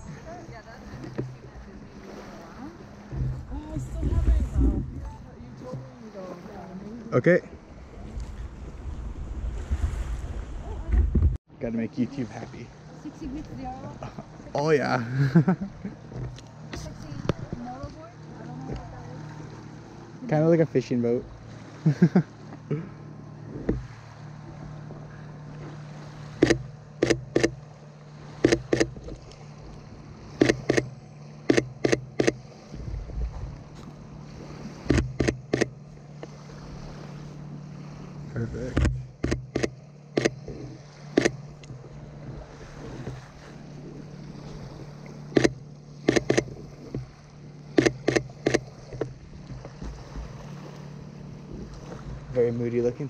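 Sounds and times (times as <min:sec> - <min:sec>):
distant boat engine drone: 0:00.0 - 0:53.0
steady low hum: 0:00.0 - 0:53.0.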